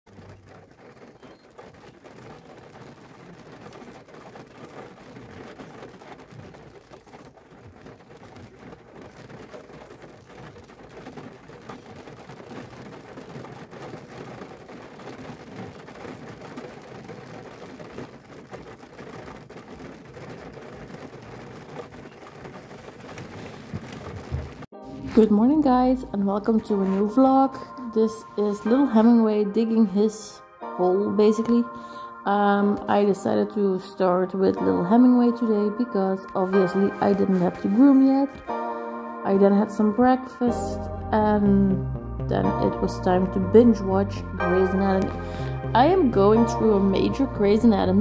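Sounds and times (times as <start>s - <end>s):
rain on a window: 0.1s - 48.0s.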